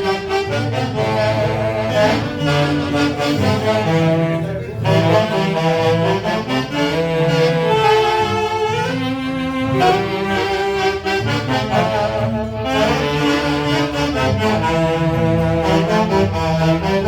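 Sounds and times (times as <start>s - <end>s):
saxophones and violins playing: 0.0s - 17.0s
steady bass: 0.0s - 17.0s.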